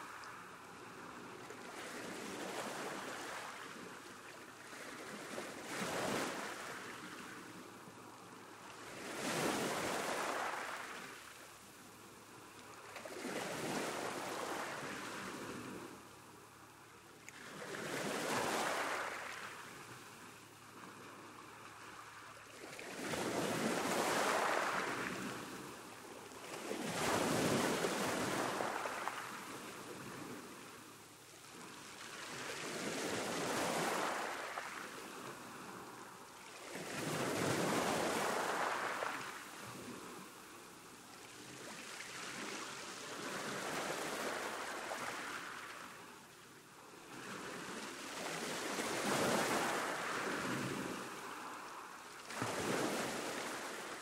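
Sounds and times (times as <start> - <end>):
sea waves breaking on beach: 0.0 - 16.6, 17.2 - 54.0.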